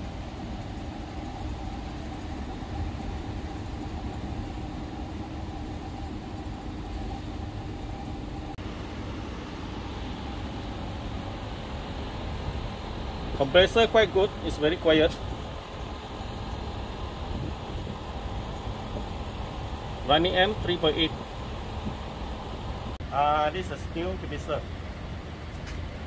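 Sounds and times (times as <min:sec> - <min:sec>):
air conditioner fan humming: 0:00.0 - 0:26.0.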